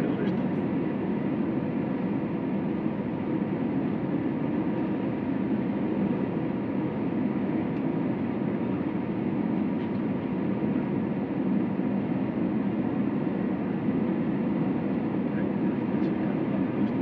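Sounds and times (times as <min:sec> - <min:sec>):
airliner engine and airflow noise: 0:00.0 - 0:17.0.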